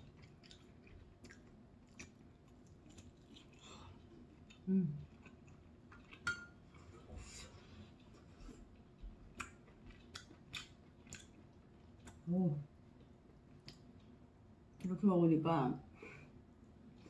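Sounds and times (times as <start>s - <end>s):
person chewing food: 0.0s - 14.8s.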